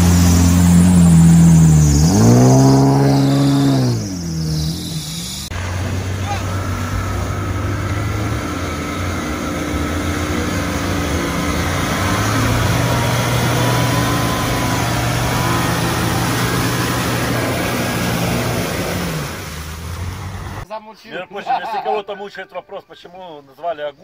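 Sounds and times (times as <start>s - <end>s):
engine running hard under load: 0.0s - 4.3s, 5.2s - 20.6s
tyres churning through mud: 0.0s - 20.6s.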